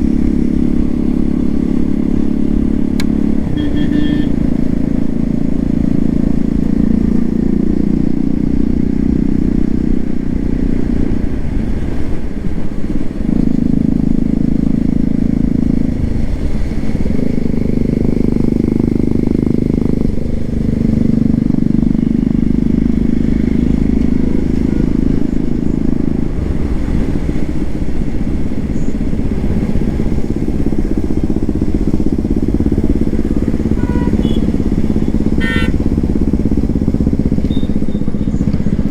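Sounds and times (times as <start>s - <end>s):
motorcycle engine exhaust note: 0.0s - 38.9s.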